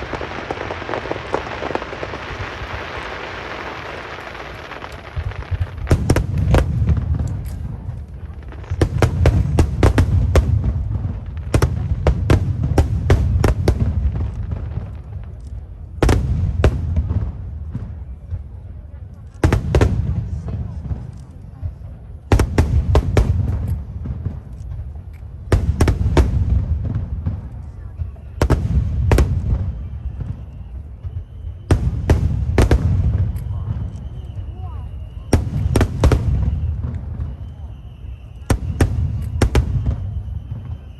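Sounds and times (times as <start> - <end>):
fireworks bursting with sharp bangs: 0.0 - 40.9.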